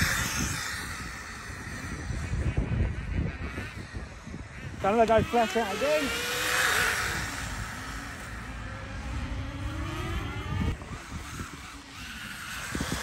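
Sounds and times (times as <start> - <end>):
rc car motor whine: 0.0 - 13.0.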